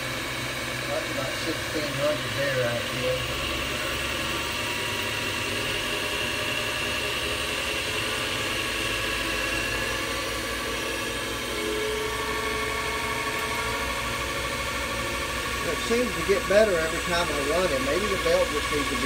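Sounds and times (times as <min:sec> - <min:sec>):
lathe motor humming: 0:00.0 - 0:19.0.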